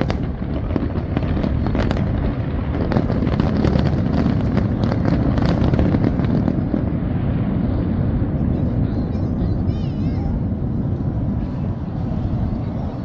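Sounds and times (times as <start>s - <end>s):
fireworks cracking: 0.0s - 13.0s
low rumble: 0.0s - 13.0s.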